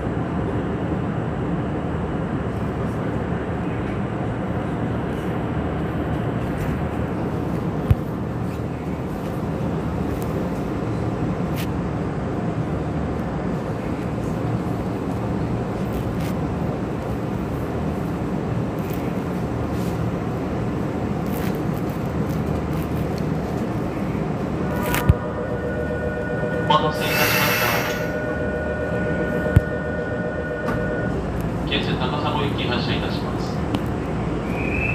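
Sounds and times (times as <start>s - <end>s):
electric train rumbling: 0.0s - 34.9s.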